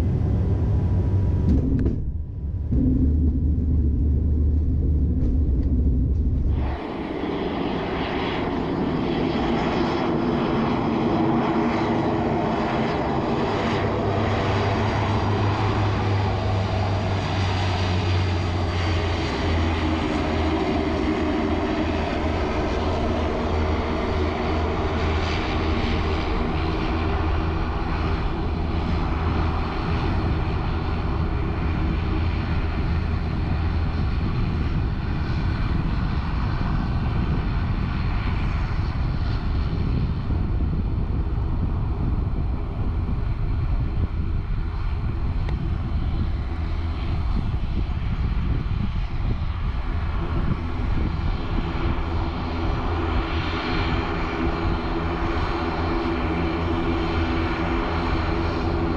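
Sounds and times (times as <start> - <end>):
turboprop engines droning: 0.0 - 58.9.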